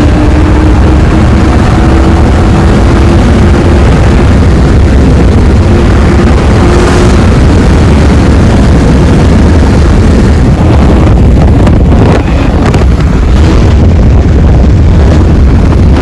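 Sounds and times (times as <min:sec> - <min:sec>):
car engine drone: 0:00.0 - 0:16.0
wind buffeting microphone: 0:00.0 - 0:16.0.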